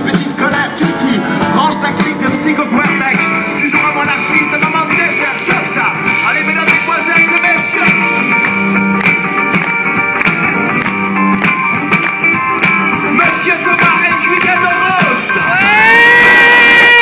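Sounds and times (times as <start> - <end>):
guitar: 0.0 - 17.0
keyboard: 0.0 - 17.0
live band music: 0.0 - 17.0.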